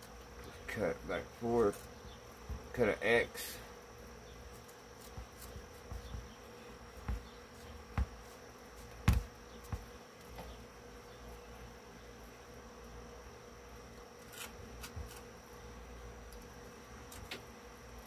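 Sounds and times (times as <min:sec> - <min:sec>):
faint buzzing hum: 0:00.0 - 0:18.0.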